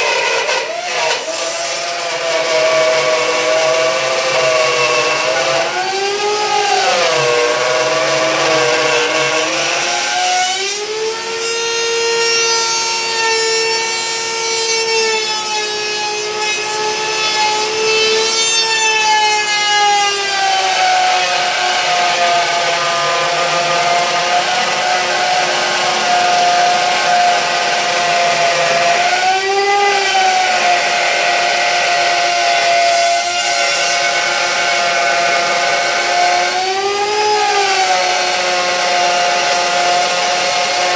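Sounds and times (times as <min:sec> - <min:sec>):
router motor whine cutting wood: 0:00.0 - 0:40.9.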